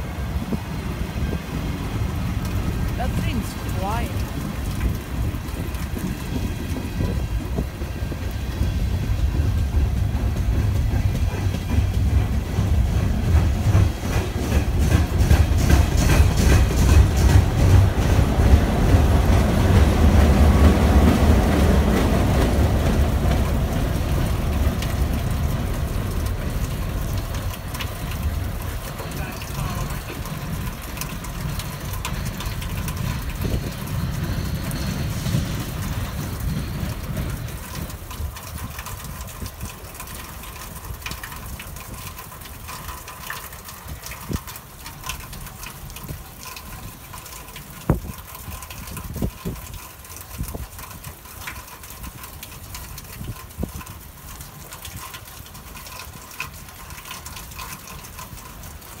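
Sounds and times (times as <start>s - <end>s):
rain hissing: 0.0s - 59.0s
train rumble: 0.0s - 59.0s.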